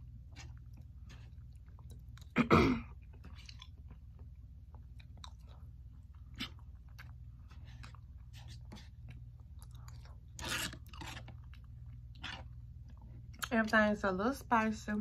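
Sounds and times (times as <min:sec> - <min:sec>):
chewing: 0:00.0 - 0:13.6.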